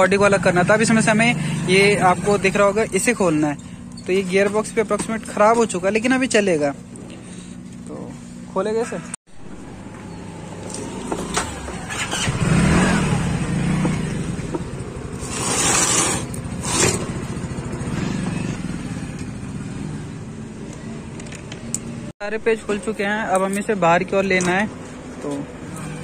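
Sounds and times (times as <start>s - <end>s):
vehicle engine running: 0.0s - 8.5s, 9.4s - 22.1s.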